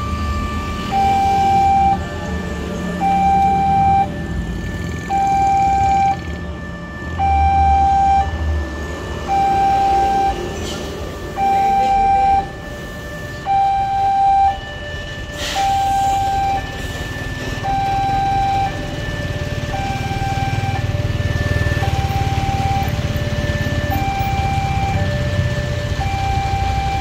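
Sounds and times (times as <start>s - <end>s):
level crossing warning alarm: 0.0s - 27.0s.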